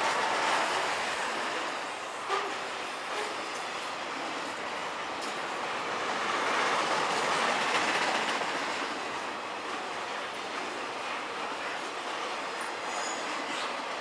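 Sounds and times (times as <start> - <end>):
freight train wheels on rails: 0.0 - 14.0.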